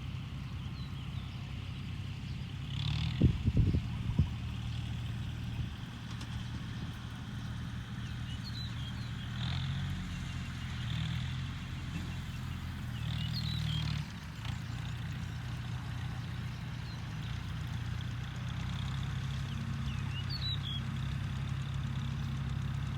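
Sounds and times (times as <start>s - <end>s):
engine running: 0.0s - 22.9s.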